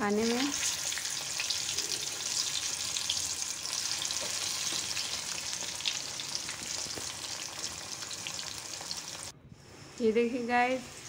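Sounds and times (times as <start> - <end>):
deep-frying sizzle and crackle: 0.0 - 9.3.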